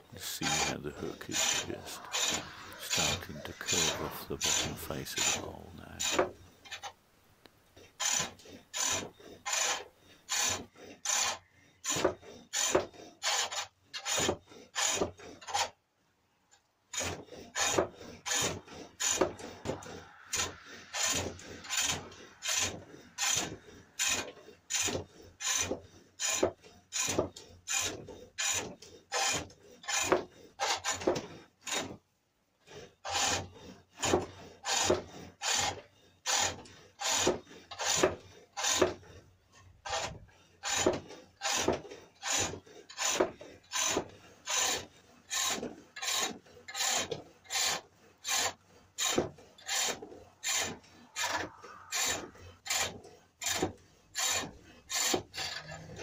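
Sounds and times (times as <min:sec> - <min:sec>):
lathe tool scraping wood: 0:00.0 - 0:07.0, 0:07.7 - 0:15.8, 0:16.9 - 0:56.0.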